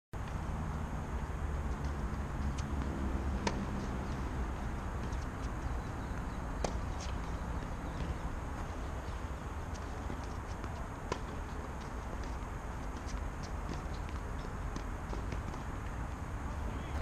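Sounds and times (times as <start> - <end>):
low outdoor rumble: 0.2 - 17.0
tennis balls struck by rackets: 0.2 - 17.0.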